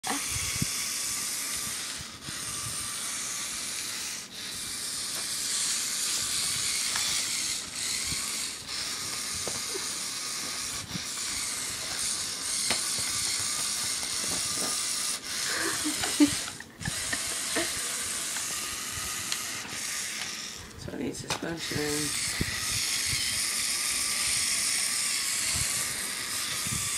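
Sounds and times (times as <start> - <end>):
toy electric motors whirring: 0.0 - 26.9.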